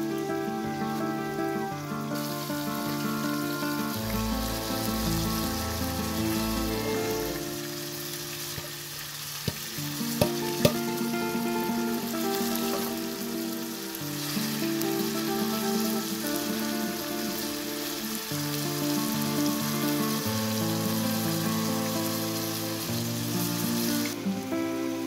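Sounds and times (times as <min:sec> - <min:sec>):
slow background music: 0:00.0 - 0:25.0
vegetables sizzling in pan: 0:00.0 - 0:25.0.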